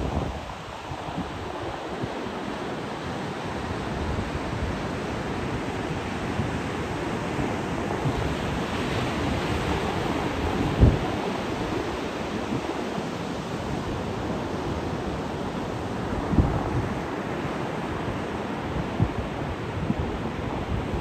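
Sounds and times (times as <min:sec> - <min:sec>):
wind gusting on microphone: 0:00.0 - 0:21.0.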